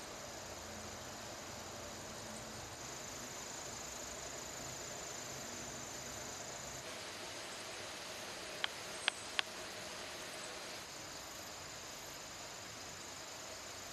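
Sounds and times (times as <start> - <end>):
insects buzzing: 0.0 - 13.9
steady hiss: 0.0 - 13.9.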